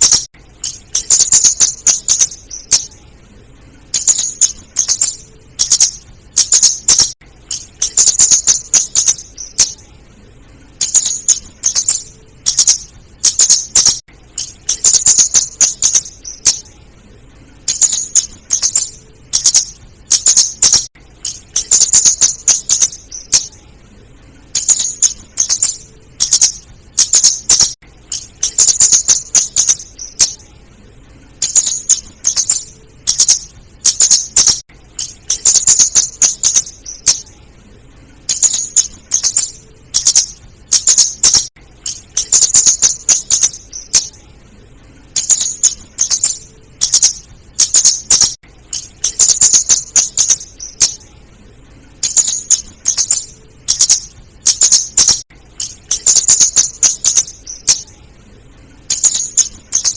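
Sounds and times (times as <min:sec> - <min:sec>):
bird high-pitched chips: 0:00.0 - 0:03.1, 0:03.8 - 0:09.9, 0:10.6 - 0:16.8, 0:17.6 - 0:23.7, 0:24.5 - 0:30.6, 0:31.4 - 0:37.4, 0:38.2 - 0:44.2, 0:45.1 - 0:51.2, 0:52.0 - 0:58.0, 0:58.8 - 0:59.9.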